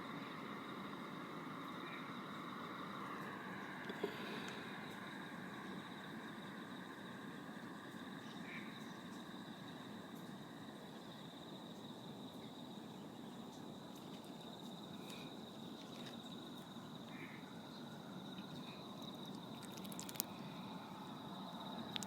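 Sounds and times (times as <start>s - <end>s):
insect chirring: 0.6s - 22.0s.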